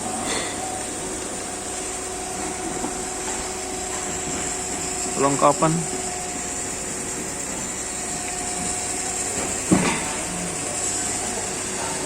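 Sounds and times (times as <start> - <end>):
boring machine humming and hissing: 0.0 - 12.0.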